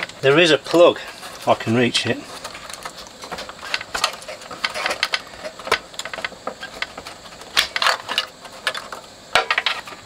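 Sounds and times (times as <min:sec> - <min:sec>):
scraping and rustling: 0:00.0 - 0:10.0.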